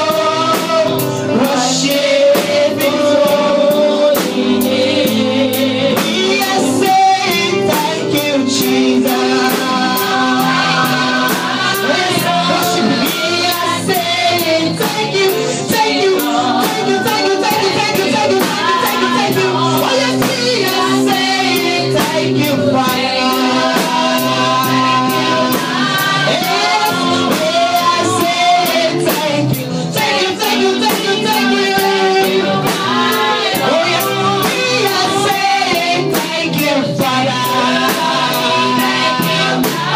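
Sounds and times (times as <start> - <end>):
drum kit beat: 0.0 - 39.9
gospel singing: 0.0 - 39.9
guitar: 0.0 - 39.9.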